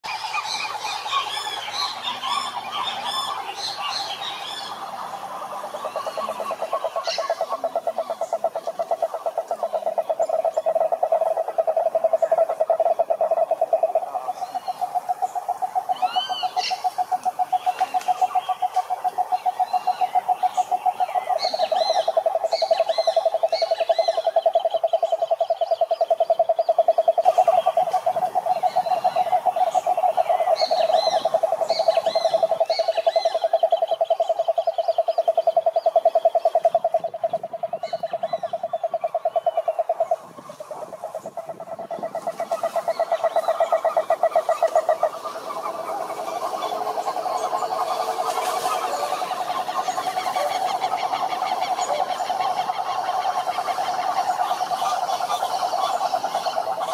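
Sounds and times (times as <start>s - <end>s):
frogs croaking in chorus: 0.0s - 56.9s.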